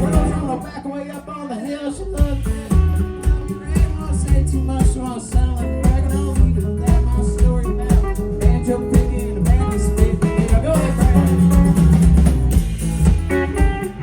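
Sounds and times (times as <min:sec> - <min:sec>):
electric guitar playing: 0:00.0 - 0:01.3, 0:02.2 - 0:14.0
bass guitar: 0:00.0 - 0:14.0
drum kit beat: 0:00.0 - 0:14.0.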